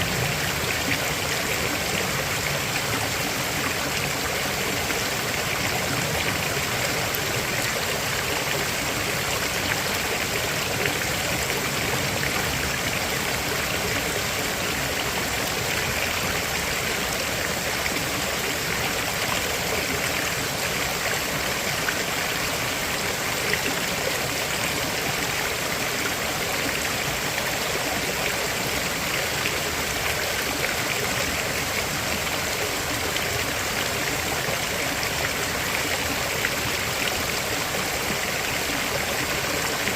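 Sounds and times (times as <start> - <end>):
river water babbling over rocks: 0.0 - 39.9.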